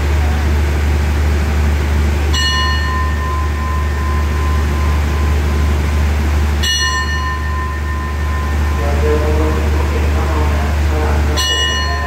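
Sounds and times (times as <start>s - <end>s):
diesel engine idling hum: 0.0s - 12.0s
station bell ringing: 2.3s - 12.0s.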